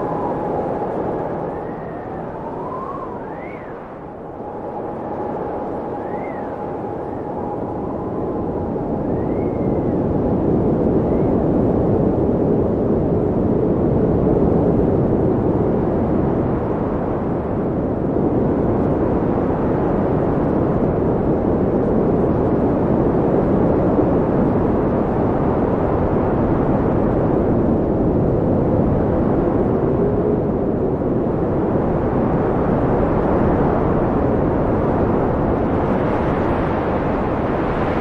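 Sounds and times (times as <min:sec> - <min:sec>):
faint wind whistles: 0:00.0 - 0:38.0
wind blowing: 0:00.0 - 0:38.0.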